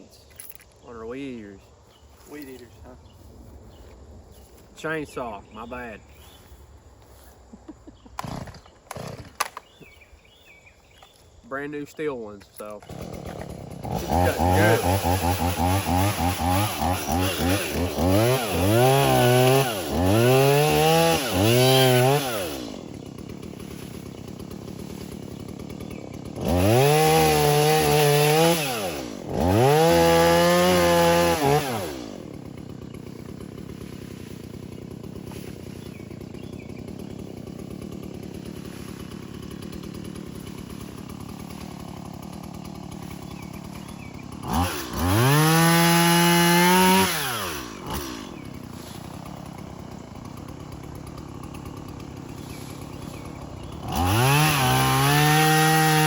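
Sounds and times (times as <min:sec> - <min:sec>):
chainsaw revving and idling: 0:00.3 - 0:06.6, 0:07.9 - 0:56.0.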